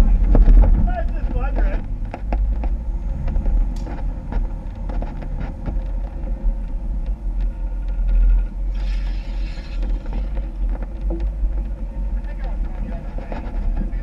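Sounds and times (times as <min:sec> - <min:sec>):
engine rumbling: 0:00.0 - 0:14.0
knocks and rattles: 0:00.1 - 0:14.0.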